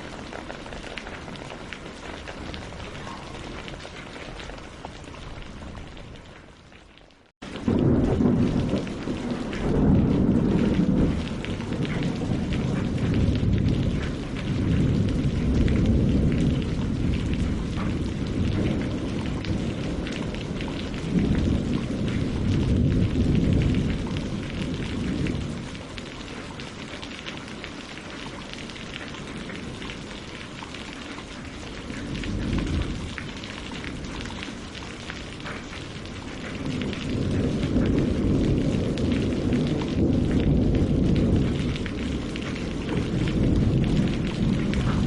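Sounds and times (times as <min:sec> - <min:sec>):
distant thunder rumbling: 0:00.0 - 0:06.2, 0:07.4 - 0:45.0
rain on leaves and water: 0:00.0 - 0:45.0.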